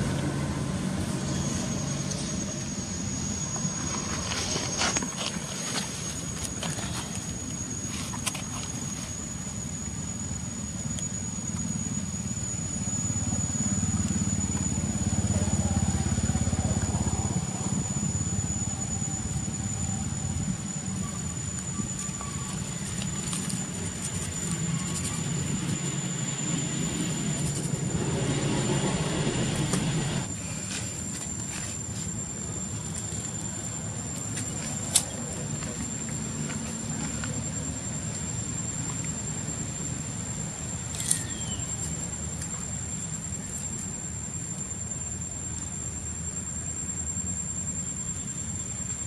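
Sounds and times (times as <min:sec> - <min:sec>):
vehicle engine rumble: 0:00.0 - 0:47.4
steady high-pitched whine: 0:00.0 - 0:49.0.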